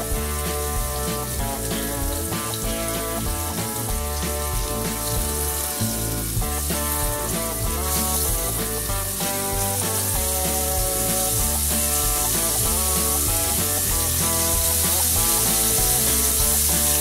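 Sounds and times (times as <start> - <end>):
background music: 0.0 - 17.0
steaks sizzling in skillet: 0.0 - 17.0.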